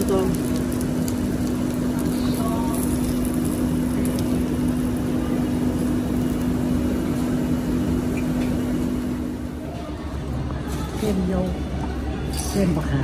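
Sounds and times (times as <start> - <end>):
machine hum: 0.0 - 12.2.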